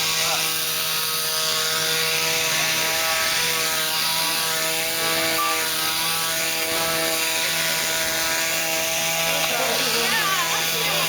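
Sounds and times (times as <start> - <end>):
chainsaw engine at high revs: 0.0 - 11.0.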